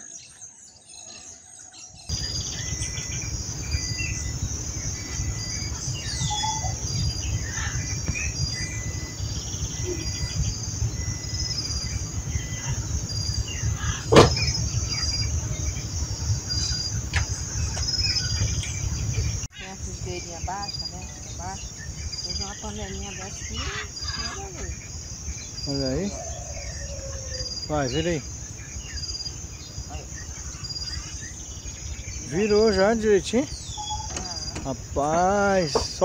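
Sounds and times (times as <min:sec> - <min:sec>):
birds calling: 0:00.0 - 0:36.0
insects droning and chirping: 0:00.0 - 0:36.0
low uneven rumble: 0:02.1 - 0:36.0.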